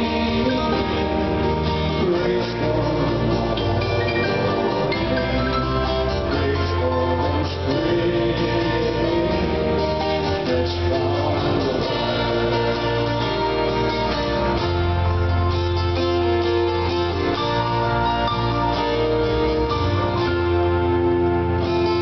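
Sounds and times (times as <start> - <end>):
acoustic guitars strumming: 0.0 - 22.0
keyboard: 0.0 - 22.0
low bass: 0.0 - 22.0.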